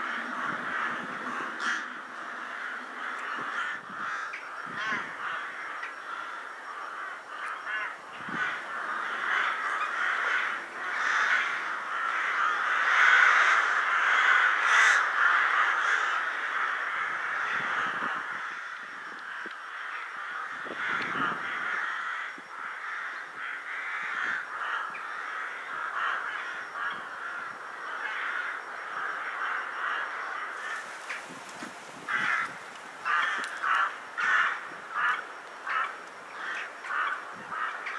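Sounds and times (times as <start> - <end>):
flock of rooks cawing: 0.0 - 37.9.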